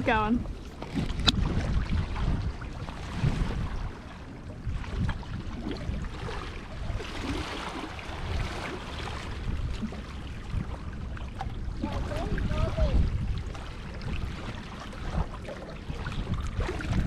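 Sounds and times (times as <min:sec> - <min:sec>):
seawater washing at rocks: 0:00.0 - 0:17.0
wind rumbling on microphone: 0:00.0 - 0:17.0.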